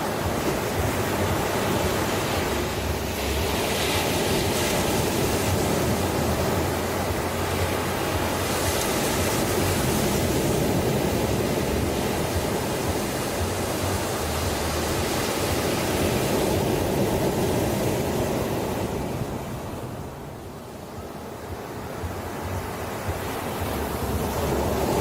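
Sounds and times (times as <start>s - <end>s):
ocean waves on shore: 0.0s - 25.0s.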